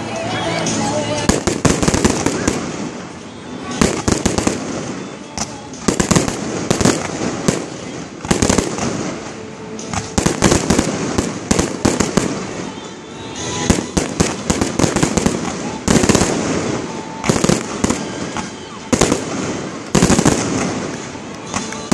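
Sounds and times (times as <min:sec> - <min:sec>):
fireworks crackle: 0:00.0 - 0:21.9
fireworks bangs: 0:00.7 - 0:21.9.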